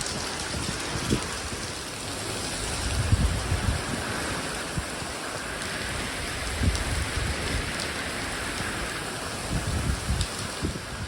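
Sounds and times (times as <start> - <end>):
heavy rain falling: 0.0 - 11.0
wind gusts: 0.0 - 11.0.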